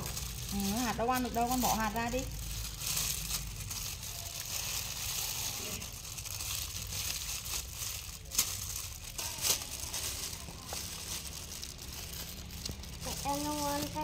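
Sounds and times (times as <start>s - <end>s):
plastic gloves crinkling: 0.0s - 14.0s.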